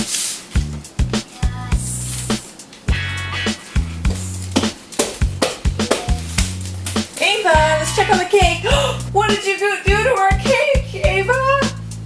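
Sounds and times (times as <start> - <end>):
drum beat: 0.6 - 12.0
steady bass line: 0.6 - 12.0.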